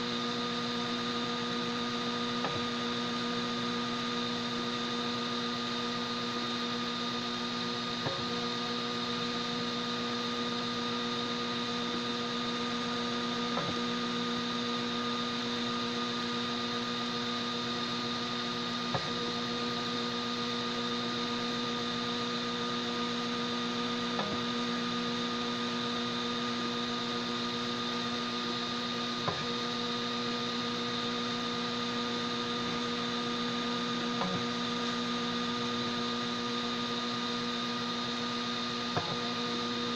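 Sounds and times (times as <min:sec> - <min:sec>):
printer electrical hum: 0:00.0 - 0:39.9.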